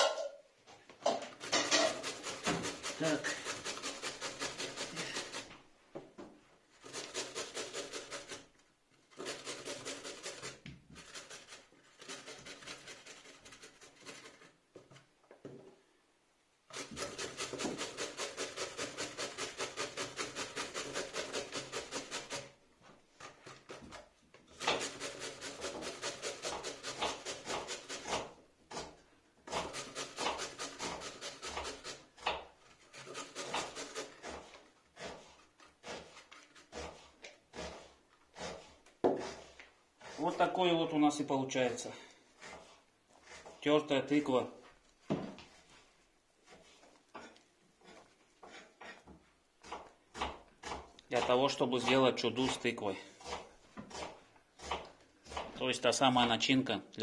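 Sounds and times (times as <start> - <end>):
pumpkin grated on hand grater: 1.4 - 5.5, 6.7 - 15.0, 16.7 - 22.6, 23.2 - 44.4, 46.4 - 56.5.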